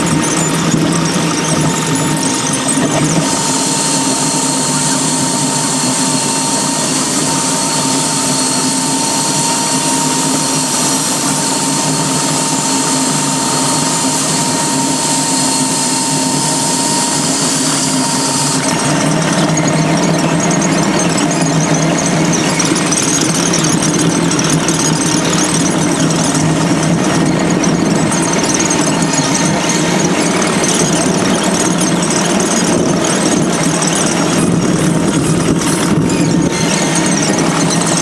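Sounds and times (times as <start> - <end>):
hissing whine: 0.0 - 38.0
machine running with held tones: 0.0 - 38.0.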